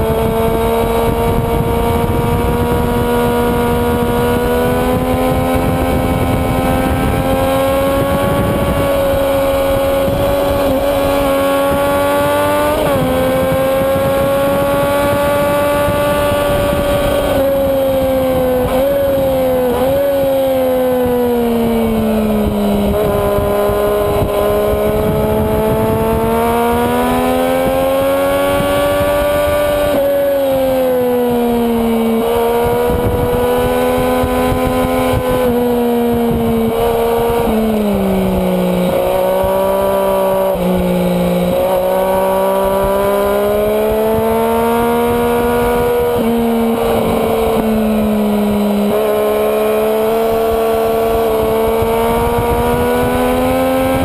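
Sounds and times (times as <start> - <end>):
motorcycle engine at high revs: 0.0 - 54.0
wind rush on microphone: 0.0 - 54.0.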